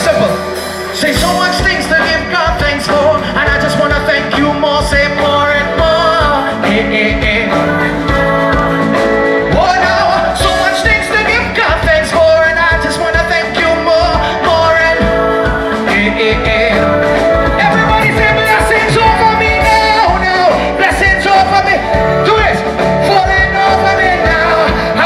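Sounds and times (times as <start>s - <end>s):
gospel band playing: 0.0s - 25.0s
people singing: 1.0s - 21.8s, 23.1s - 25.0s.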